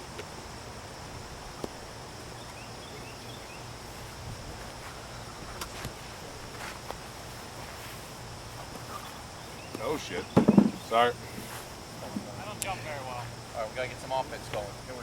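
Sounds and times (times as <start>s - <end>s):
steady faint hiss: 0.0s - 15.0s.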